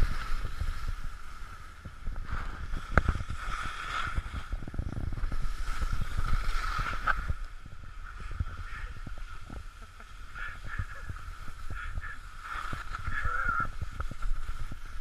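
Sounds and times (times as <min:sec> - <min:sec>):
skis hissing on snow: 0:00.0 - 0:07.4, 0:08.0 - 0:15.0
wind buffeting microphone: 0:00.0 - 0:15.0.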